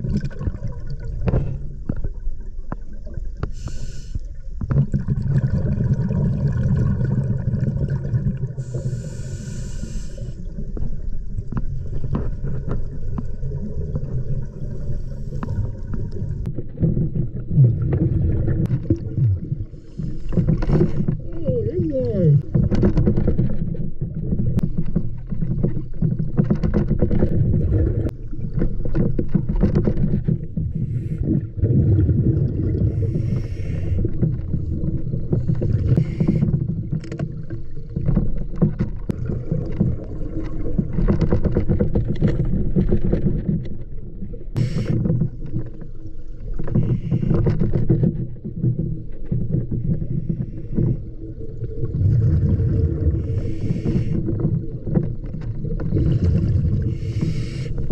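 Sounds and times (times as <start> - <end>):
gurgling regulator bubbles: 0.0 - 57.9
low underwater rumble and hum: 0.0 - 57.9.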